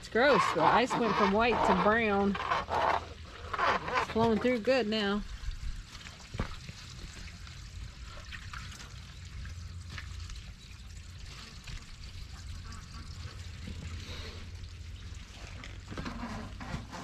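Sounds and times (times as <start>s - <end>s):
water trickling and pouring: 0.0s - 16.8s.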